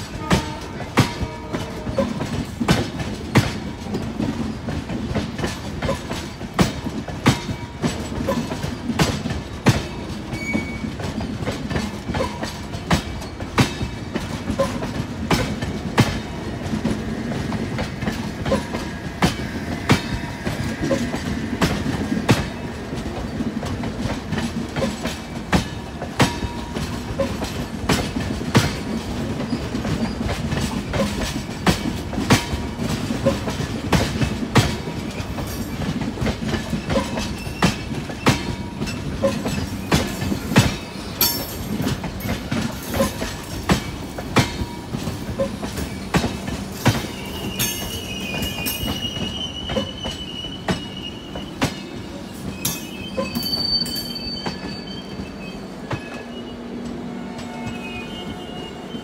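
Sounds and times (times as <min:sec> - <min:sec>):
train wheels clacking over rail joints: 0:00.0 - 0:58.2
train rumble: 0:00.0 - 0:59.0.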